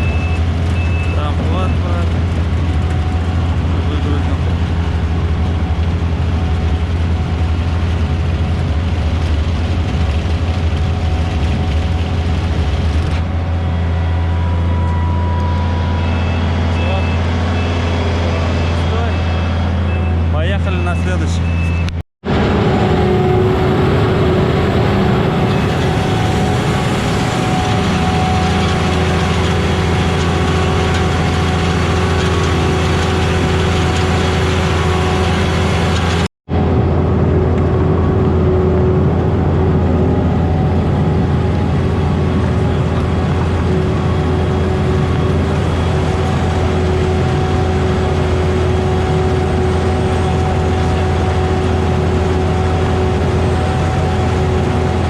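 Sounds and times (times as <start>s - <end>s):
harvester engine drone: 0.0s - 55.0s
machinery whine: 0.0s - 55.0s.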